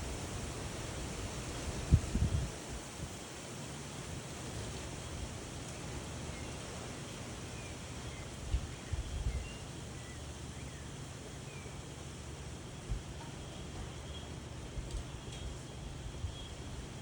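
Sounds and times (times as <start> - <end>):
wind rustling: 0.0 - 17.0.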